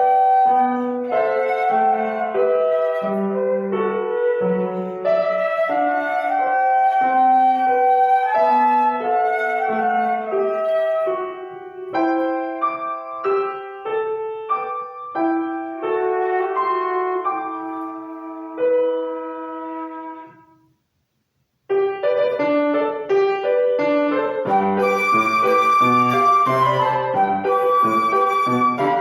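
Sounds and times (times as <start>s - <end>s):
piano playing classical piece: 0.0s - 20.5s, 21.7s - 29.0s.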